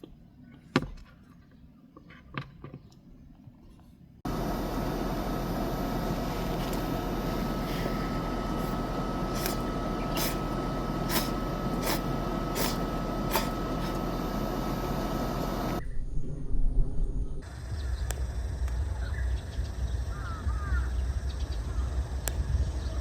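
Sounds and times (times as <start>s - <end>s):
vehicle road and cabin noise: 3.7s - 23.0s.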